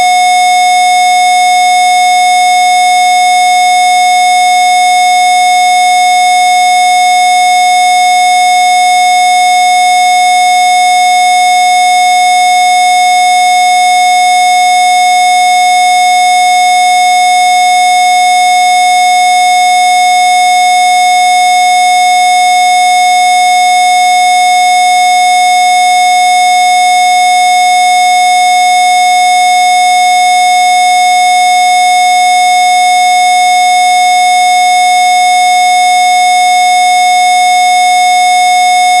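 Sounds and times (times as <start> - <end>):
steady sine tone: 0.0 - 39.0.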